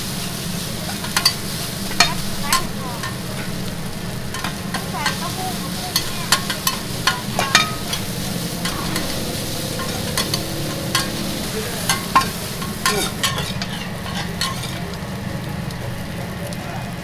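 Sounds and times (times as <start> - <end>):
noodles sizzling in a pan: 0.0 - 17.0
metal spatula clanking on pan: 0.8 - 15.0.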